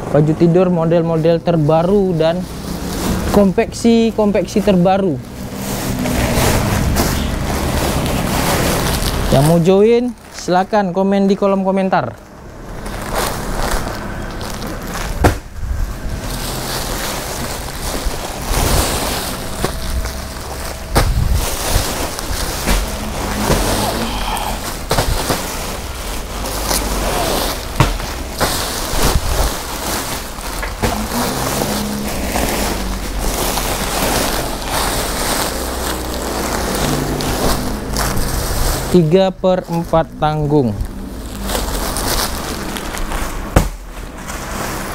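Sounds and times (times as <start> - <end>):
plastic sacks rustling and crinkling: 0.1 - 44.9.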